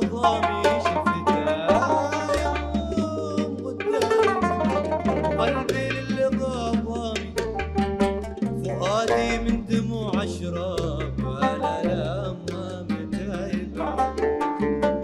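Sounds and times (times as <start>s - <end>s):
man singing: 0.0s - 7.7s, 8.6s - 14.5s
low bass line: 0.0s - 15.0s
oud plucked notes: 0.0s - 15.0s
percussion: 0.0s - 15.0s.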